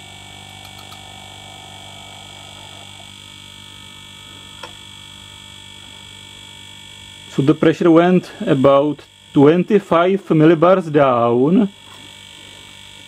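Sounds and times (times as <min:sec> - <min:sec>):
compressors humming: 0:00.0 - 0:12.8.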